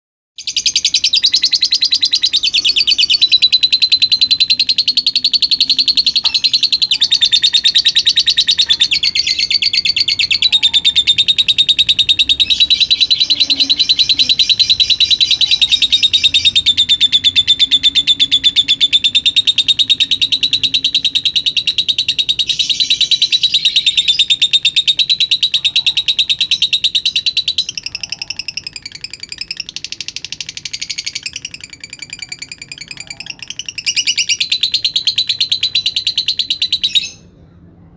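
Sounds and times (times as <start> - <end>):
lovebird chattering trill: 0.4 - 37.3.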